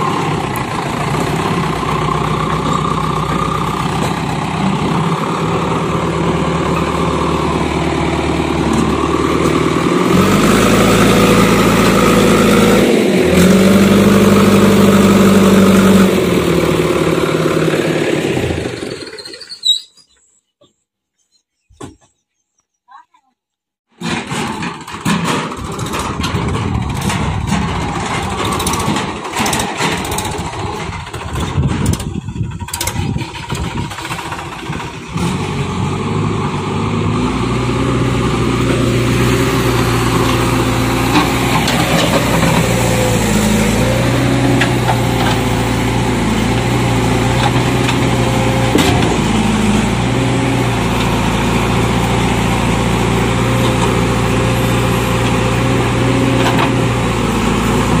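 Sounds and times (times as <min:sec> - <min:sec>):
diesel engines running: 0:00.0 - 0:19.9, 0:24.0 - 0:58.0.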